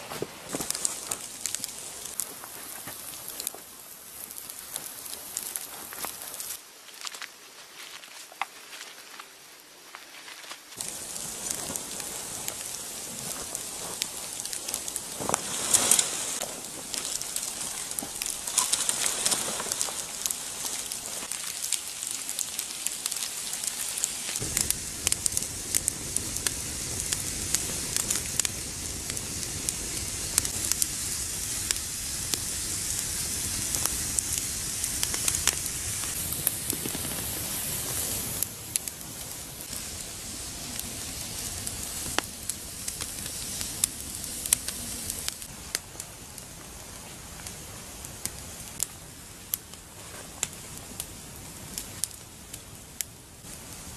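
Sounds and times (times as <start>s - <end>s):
campfire crackling and hissing: 0.0s - 53.9s
rustles: 0.0s - 53.9s.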